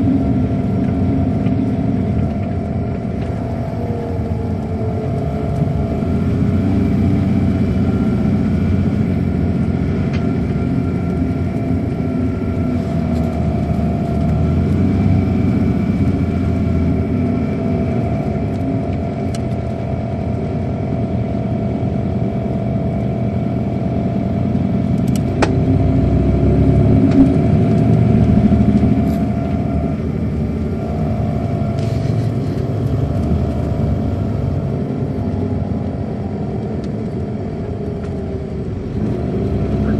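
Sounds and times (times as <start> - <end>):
bus diesel engine rumbling: 0.0 - 39.9
engine whine: 0.0 - 39.9.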